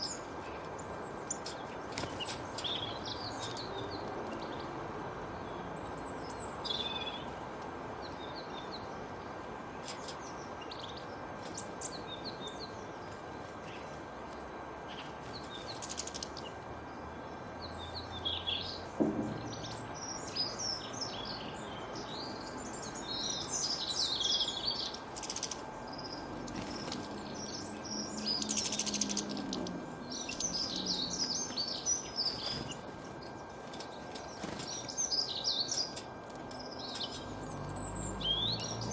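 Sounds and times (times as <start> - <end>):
small birds chirping: 0.0 - 38.9
steady background hiss: 0.0 - 38.9.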